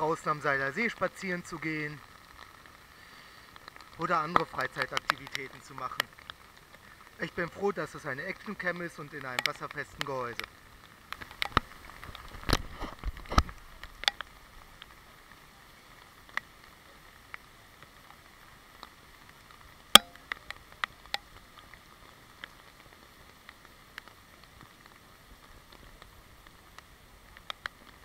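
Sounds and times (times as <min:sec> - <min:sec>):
muffled heavy rain on pavement: 0:00.0 - 0:28.0
raindrops ticking on camera housing: 0:00.0 - 0:28.0.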